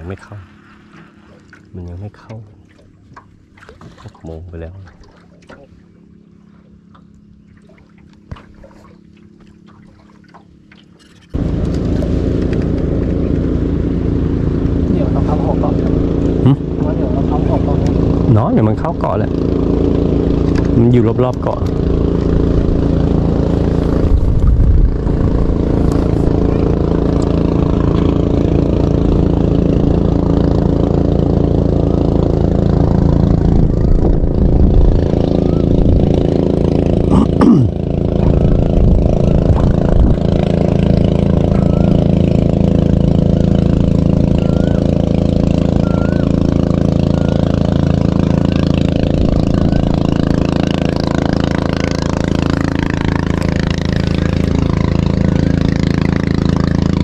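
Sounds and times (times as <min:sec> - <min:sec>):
boat motor droning: 0:00.0 - 0:57.0.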